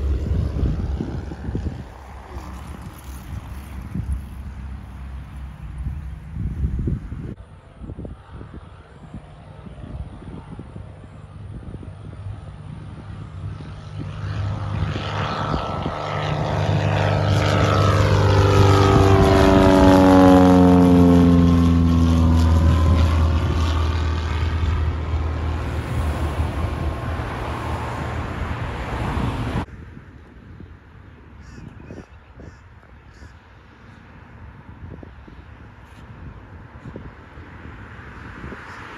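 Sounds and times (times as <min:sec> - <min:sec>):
propeller airplane flying overhead: 0:00.0 - 0:38.9.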